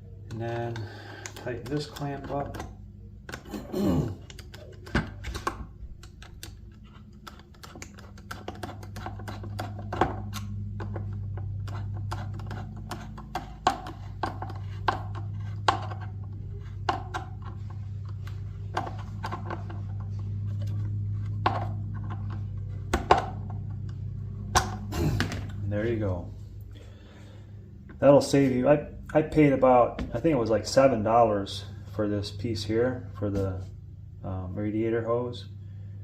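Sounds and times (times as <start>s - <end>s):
low hum: 0.0s - 36.0s.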